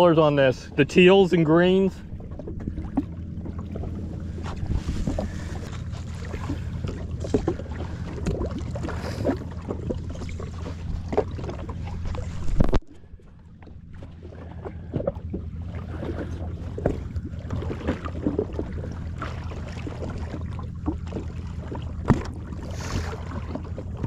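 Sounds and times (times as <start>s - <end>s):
jet ski engine idling: 0.0s - 12.4s, 13.0s - 24.0s
water slapping against hull: 0.0s - 24.0s.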